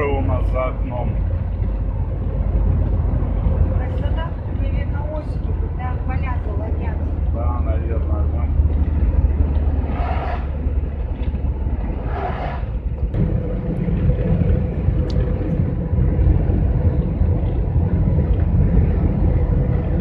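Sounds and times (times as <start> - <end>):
steady hum: 0.0 - 20.0
van engine and road rumble: 0.0 - 20.0.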